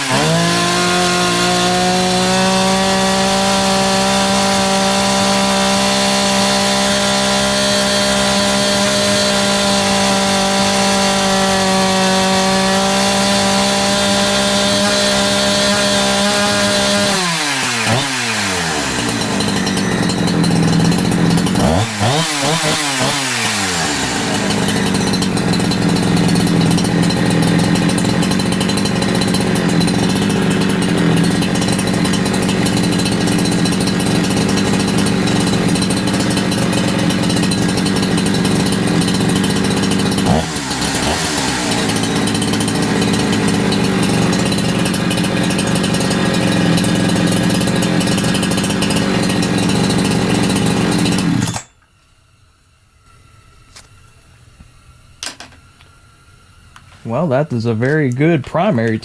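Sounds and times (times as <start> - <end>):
chainsaw engine at high revs: 0.0 - 51.7, 57.1 - 59.0.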